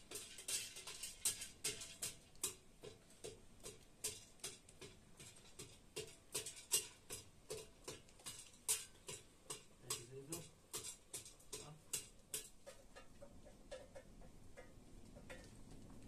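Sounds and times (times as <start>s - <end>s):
utensil clinking in metal jug: 0.0s - 13.1s.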